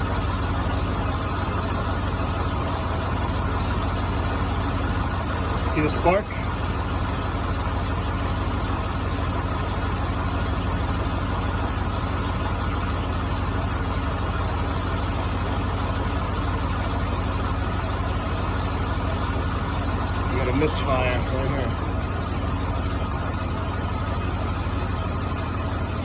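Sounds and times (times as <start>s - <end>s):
car engine idling roughly: 0.0s - 26.0s.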